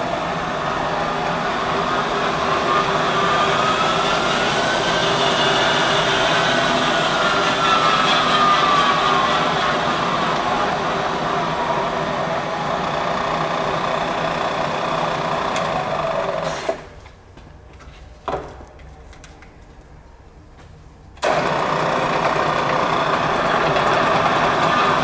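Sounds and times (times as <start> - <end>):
milling machine running: 0.0 - 16.4, 21.2 - 25.0.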